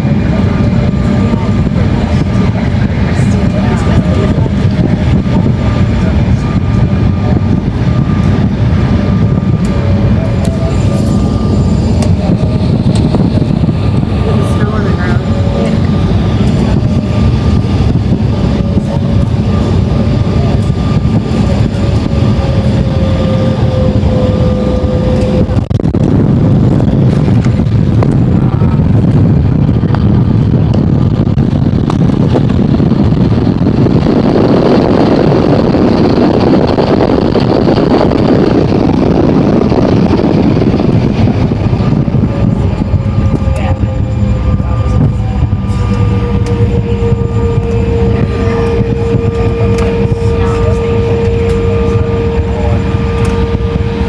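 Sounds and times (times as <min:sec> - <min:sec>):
broad loud rushing noise: 0:00.0 - 0:54.0
faint engine whine: 0:00.0 - 0:54.0
jet engine and airflow rushing: 0:00.0 - 0:54.0.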